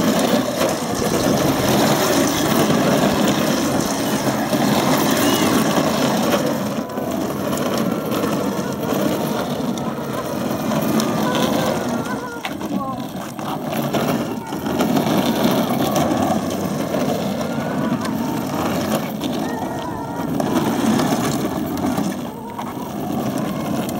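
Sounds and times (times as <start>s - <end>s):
plastic wheels rolling on concrete: 0.0s - 23.9s.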